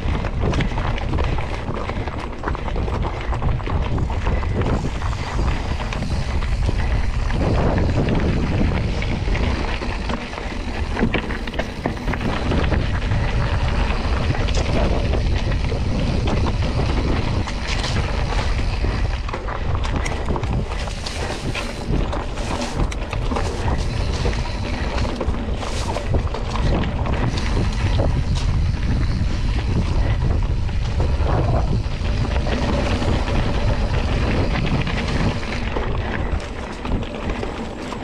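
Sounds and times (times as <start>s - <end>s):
bike rattling clicks and knocks: 0.0s - 38.0s
tyre rumble: 0.0s - 38.0s
wind on microphone: 0.0s - 38.0s.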